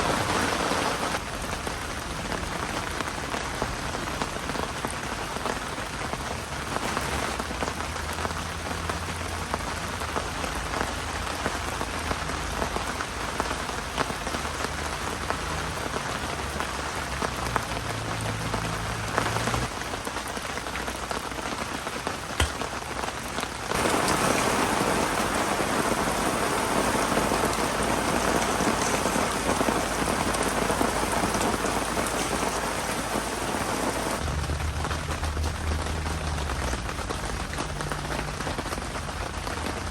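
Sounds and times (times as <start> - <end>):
heavy rain falling: 0.0 - 39.9
sharp raindrop impacts: 0.0 - 39.9.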